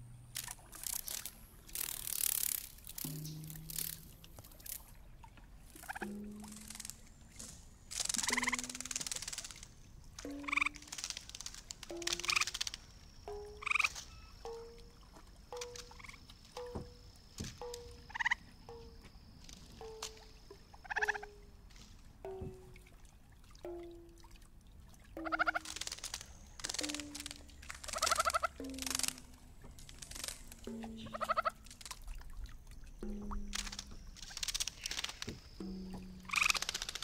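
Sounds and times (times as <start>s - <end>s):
frog-like croaking electronic notes: 0.0s - 4.9s, 5.7s - 21.6s, 22.2s - 22.8s, 23.6s - 24.3s, 25.1s - 37.0s
splashing water: 0.0s - 37.0s.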